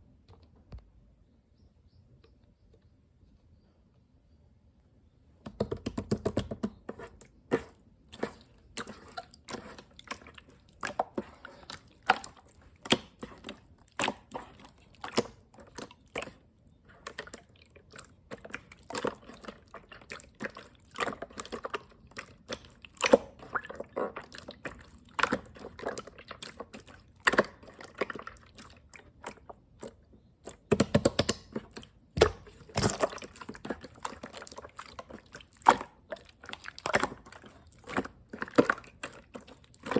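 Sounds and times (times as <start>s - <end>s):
slime squishing with wet pops: 5.5s - 39.9s.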